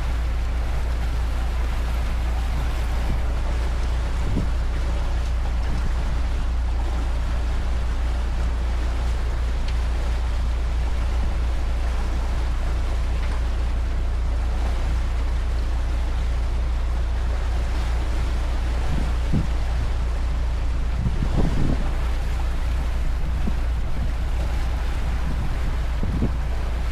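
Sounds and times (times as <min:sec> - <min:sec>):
boat engine droning: 0:00.0 - 0:26.9
water rushing past hull: 0:00.0 - 0:26.9.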